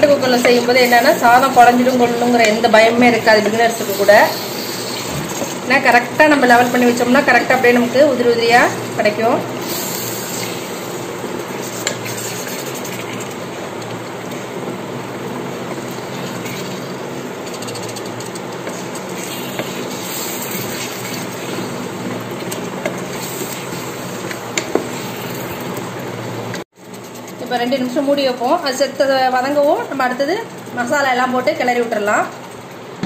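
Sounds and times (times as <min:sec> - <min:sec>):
food sizzling in a pot: 0:00.0 - 0:32.5
spatula stirring and scraping: 0:00.0 - 0:33.0.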